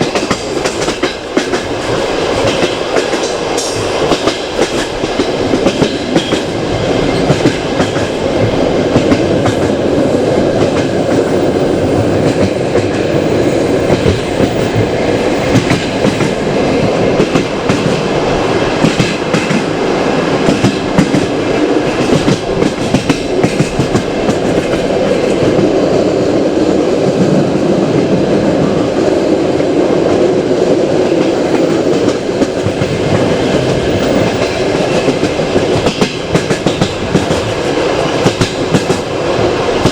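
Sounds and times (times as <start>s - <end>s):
wheels clacking over rail joints: 0.0s - 25.8s, 31.0s - 39.9s
train wheels running over rails: 0.0s - 39.9s.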